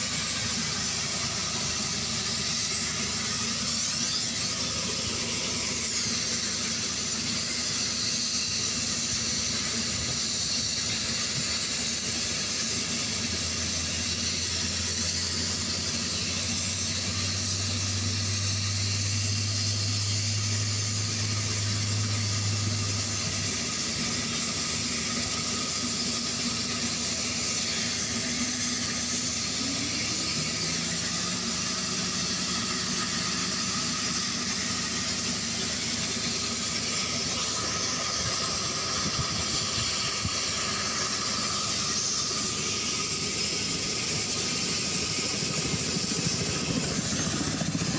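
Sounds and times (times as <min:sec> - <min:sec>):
helicopter turbine engines: 0:00.0 - 0:47.9.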